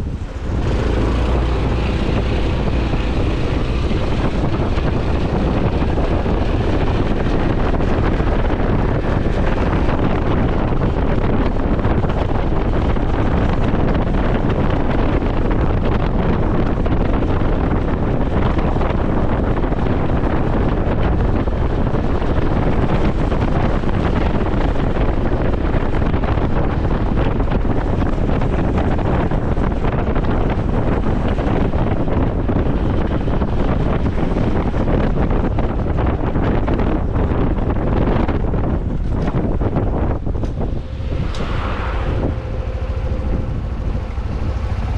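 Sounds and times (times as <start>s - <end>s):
motorcycle engine: 0.0s - 44.9s
road noise: 0.0s - 44.9s
wind rushing over microphone: 0.0s - 44.9s.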